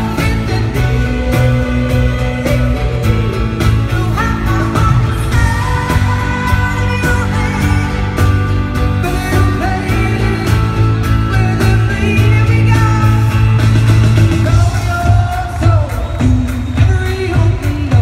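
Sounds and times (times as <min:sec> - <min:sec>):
woman singing: 0:00.0 - 0:13.8, 0:14.4 - 0:18.0
drums beating: 0:00.0 - 0:18.0
live rock band: 0:00.0 - 0:18.0.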